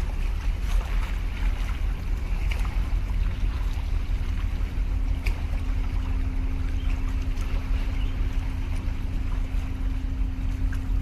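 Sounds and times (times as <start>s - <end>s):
faint steady hum: 0.0s - 11.0s
sea water washing against concrete: 0.0s - 11.0s
wind buffeting microphone: 0.0s - 11.0s.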